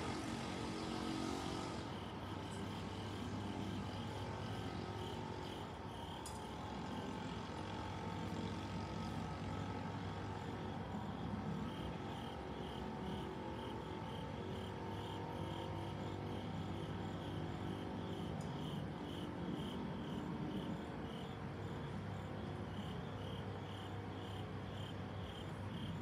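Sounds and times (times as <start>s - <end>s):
crickets chirping: 0.1s - 26.0s.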